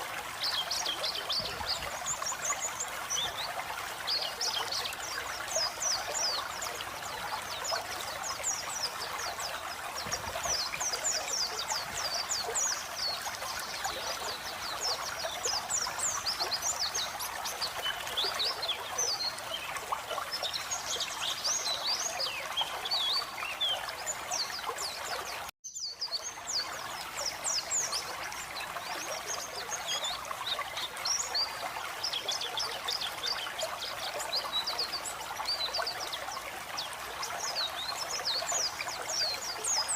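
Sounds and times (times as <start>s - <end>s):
bird twittering song: 0.0s - 39.9s
trickling running water: 0.0s - 39.9s.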